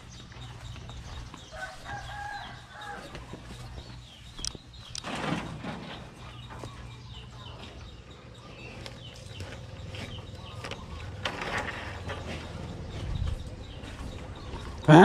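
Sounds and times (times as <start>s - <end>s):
birds chirping: 0.0s - 15.0s
chickens clucking: 0.0s - 15.0s.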